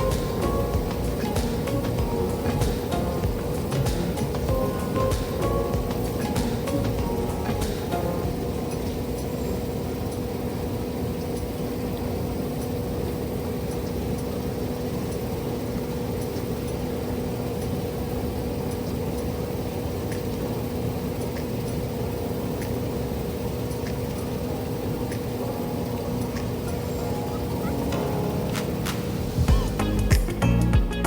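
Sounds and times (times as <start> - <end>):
farm machinery engine humming: 0.0 - 30.8.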